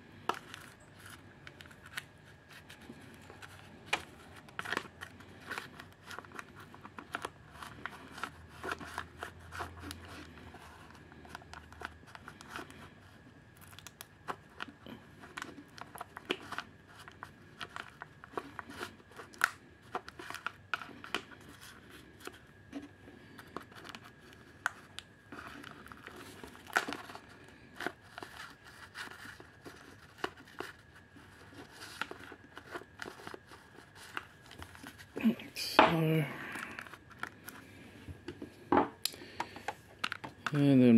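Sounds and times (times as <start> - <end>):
plastic crinkling and clicking: 0.2 - 12.9, 13.5 - 35.2, 38.2 - 40.6.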